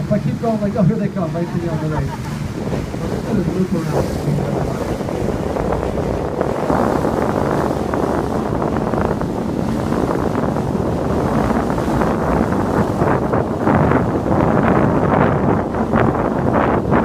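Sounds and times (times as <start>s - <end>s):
boat running through water: 0.0s - 17.0s
wind noise on microphone: 0.0s - 17.0s.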